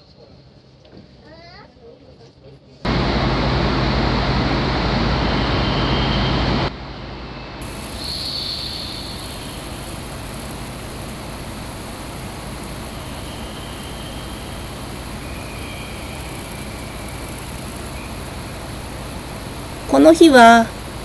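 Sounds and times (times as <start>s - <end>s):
idling electric train hum: 2.9s - 21.0s.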